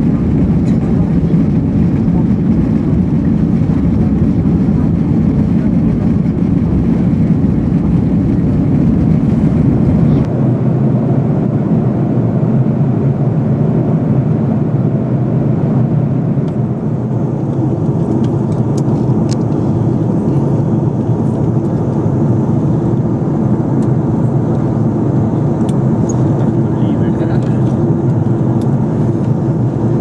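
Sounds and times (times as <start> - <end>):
jet airliner cabin rumble: 0.0 - 30.0.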